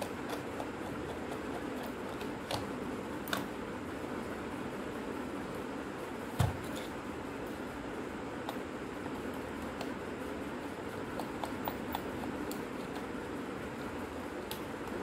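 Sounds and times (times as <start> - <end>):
fan-like hiss: 0.0 - 15.0.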